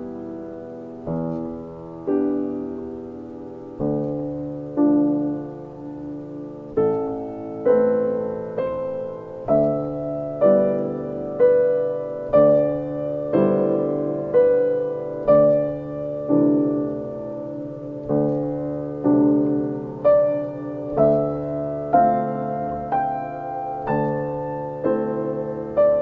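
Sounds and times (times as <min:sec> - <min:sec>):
slow solo piano: 0:00.0 - 0:26.0.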